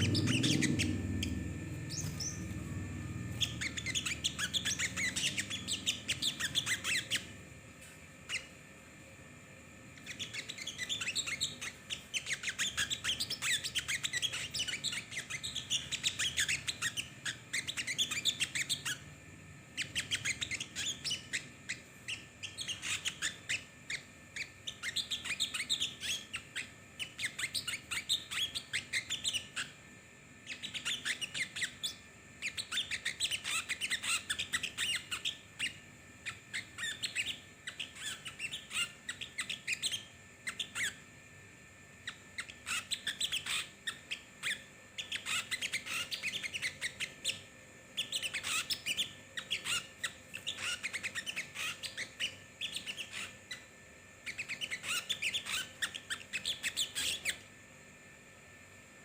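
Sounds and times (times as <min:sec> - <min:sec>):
songbird chirping and twittering: 0:00.0 - 0:07.4, 0:10.0 - 0:19.0, 0:19.8 - 0:29.8, 0:30.4 - 0:41.0, 0:42.0 - 0:57.5.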